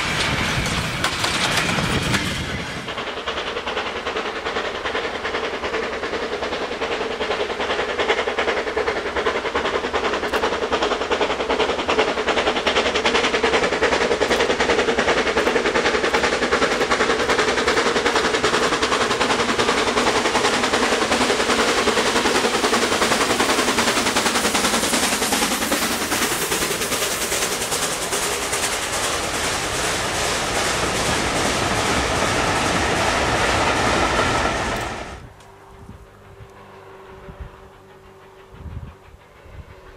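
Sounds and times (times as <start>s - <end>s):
coaches rattling over rail joints: 0.0s - 39.9s
steam locomotive exhaust beating: 0.0s - 39.9s.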